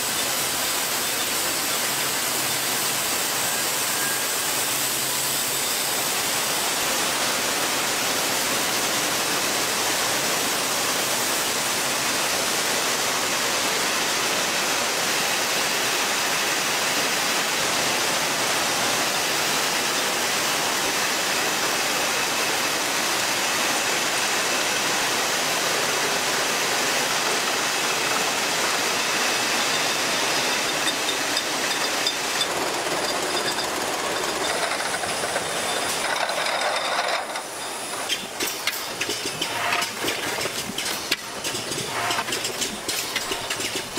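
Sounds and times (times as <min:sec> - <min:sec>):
conveyor machinery hissing: 0:00.0 - 0:43.9.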